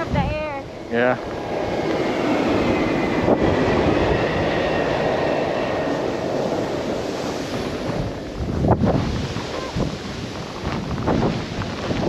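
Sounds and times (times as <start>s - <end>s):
blizzard wind on microphone: 0.0s - 12.0s.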